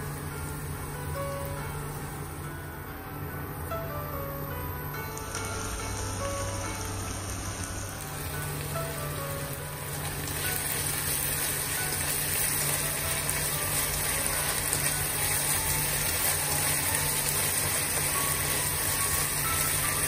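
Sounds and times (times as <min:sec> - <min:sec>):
food sizzling in a wok: 0:00.0 - 0:02.4, 0:05.0 - 0:20.0
faint background music: 0:00.0 - 0:20.0.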